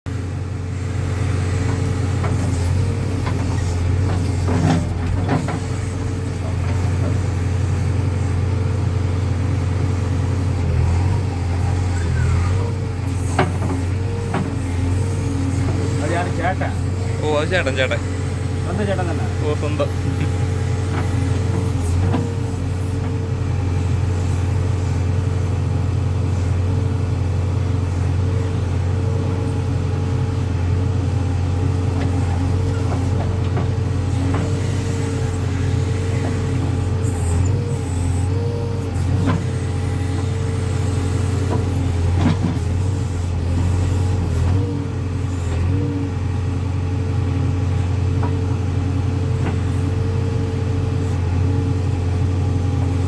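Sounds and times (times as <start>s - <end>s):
diesel engine running: 0.1s - 53.0s.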